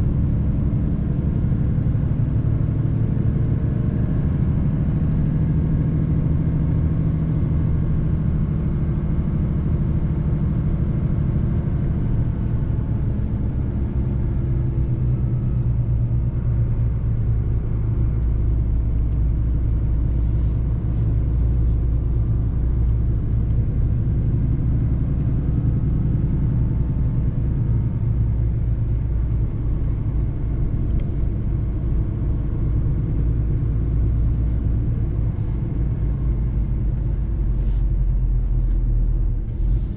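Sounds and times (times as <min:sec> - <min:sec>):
road noise: 0:00.0 - 0:39.9
truck diesel engine rumbling: 0:00.0 - 0:39.9.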